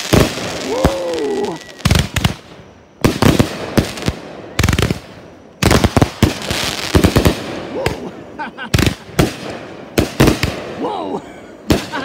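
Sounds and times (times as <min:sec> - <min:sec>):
fireworks bangs: 0:00.0 - 0:11.0, 0:11.6 - 0:12.0.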